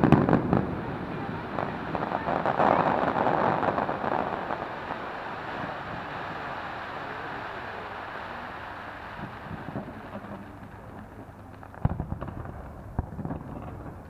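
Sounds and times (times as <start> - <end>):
firework crackling: 0.0 - 14.0
outdoor noise: 0.0 - 14.0.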